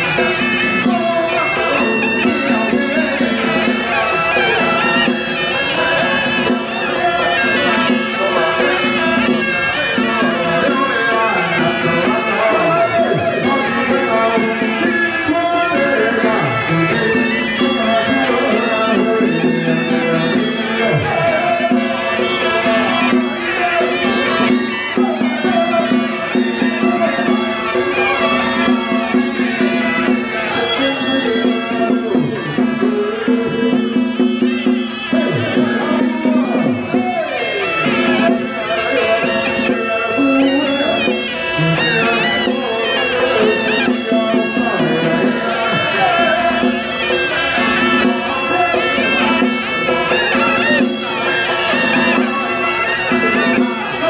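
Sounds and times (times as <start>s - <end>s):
reedy wind instrument melody: 0.0s - 54.0s.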